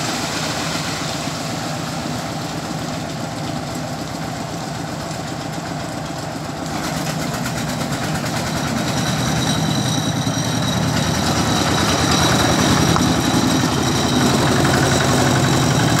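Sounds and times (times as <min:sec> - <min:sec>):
mixer truck running: 0:00.0 - 0:16.0
small engine rumbling: 0:00.0 - 0:16.0.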